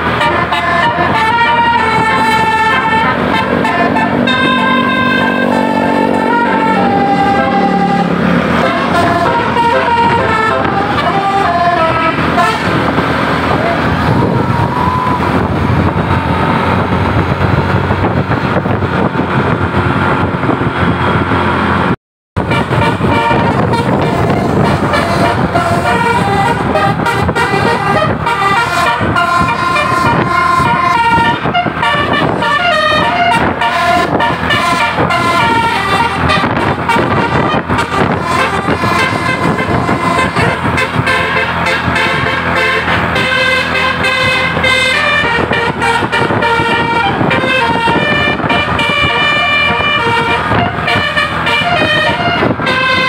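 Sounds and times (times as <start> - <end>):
multi-note musical bus horn: 0.0 - 19.5, 22.4 - 53.0
vehicle engine rumble: 0.0 - 53.0.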